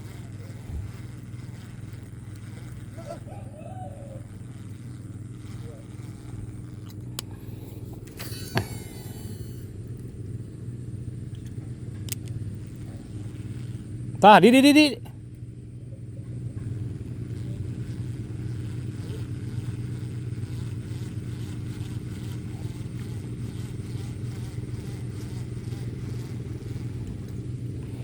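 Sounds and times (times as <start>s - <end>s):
low engine hum: 0.0s - 14.2s, 15.0s - 28.0s.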